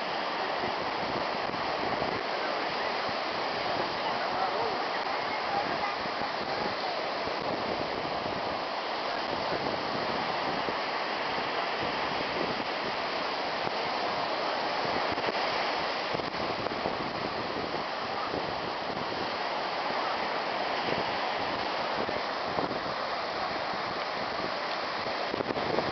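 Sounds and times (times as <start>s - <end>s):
ocean surf breaking: 0.0s - 25.9s.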